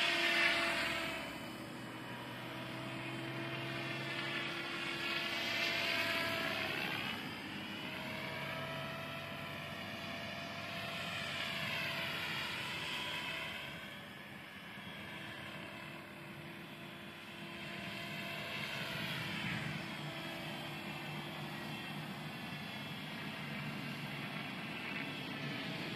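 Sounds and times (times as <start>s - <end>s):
rc helicopter motor whine: 0.0s - 25.9s.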